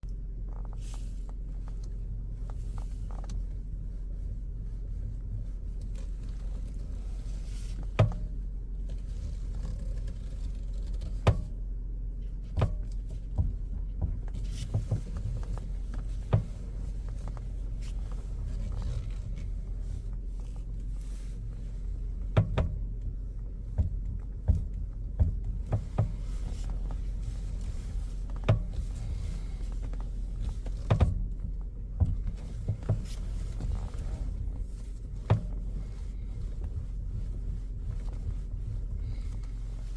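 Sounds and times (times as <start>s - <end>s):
steering knocking: 0.4s - 39.9s
low hum: 2.0s - 39.9s.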